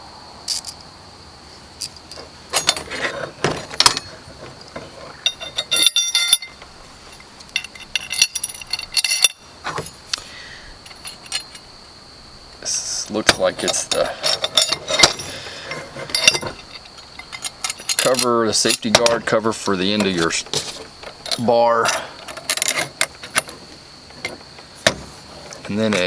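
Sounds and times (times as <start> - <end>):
metal hardware clinking and jangling: 0.5 - 0.8, 1.5 - 10.2, 10.8 - 11.8, 12.8 - 26.0
metal hardware clicking: 1.8 - 10.2, 13.1 - 26.0.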